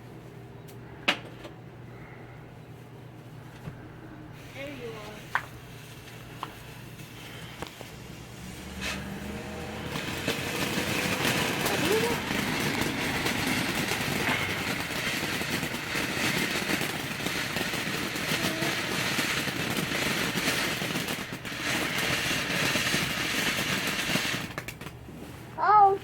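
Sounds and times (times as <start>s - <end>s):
firework crackling and popping: 4.4s - 26.0s.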